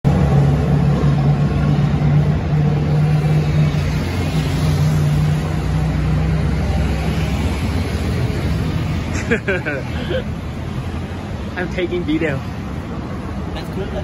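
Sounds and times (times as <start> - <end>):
tyre and traffic noise: 0.0 - 14.0
bus and car engines passing: 0.1 - 14.0.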